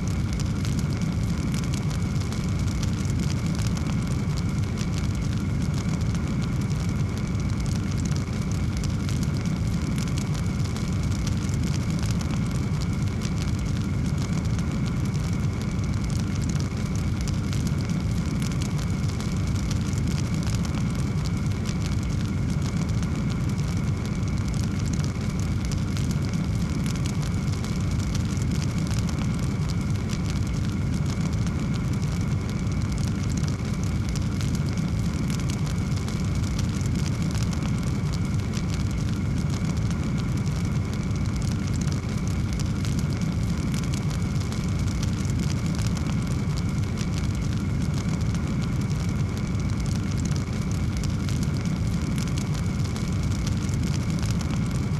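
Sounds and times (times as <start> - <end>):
fire burning with low rumble: 0.0 - 54.9
fire crackling and popping: 0.0 - 54.9.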